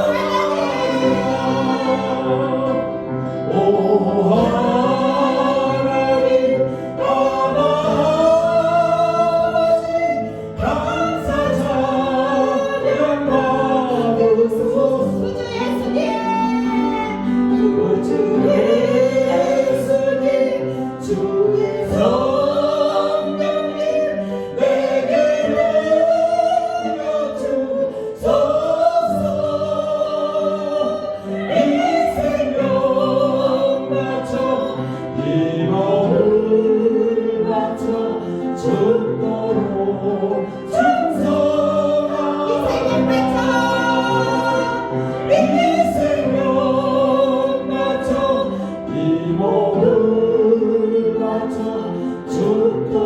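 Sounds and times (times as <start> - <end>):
congregation singing: 0.0 - 53.0
held instrumental accompaniment: 0.0 - 53.0.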